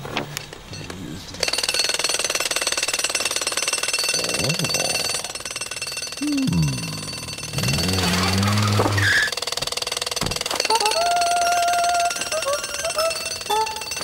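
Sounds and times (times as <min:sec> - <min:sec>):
jackhammer hammering: 0:01.4 - 0:14.0.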